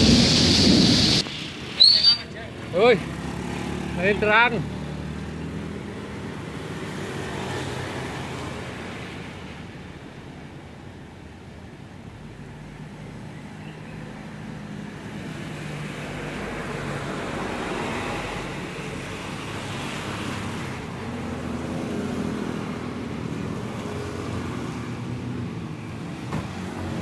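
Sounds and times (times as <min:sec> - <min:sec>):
tyres hissing on wet road: 0:00.0 - 0:11.0, 0:11.8 - 0:27.0
traffic engine hum: 0:00.0 - 0:27.0.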